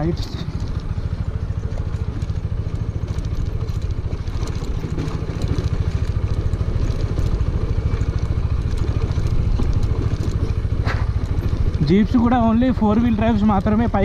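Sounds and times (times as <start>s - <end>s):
motorcycle engine running: 0.0s - 14.0s
knocks and clatter over stones: 0.1s - 14.0s.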